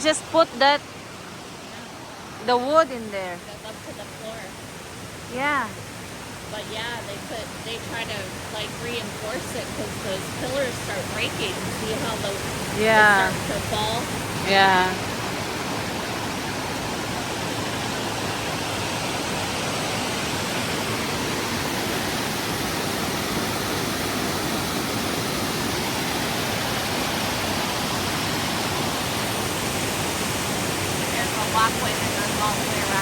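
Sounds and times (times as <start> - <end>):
waterfall roar: 0.0 - 33.0.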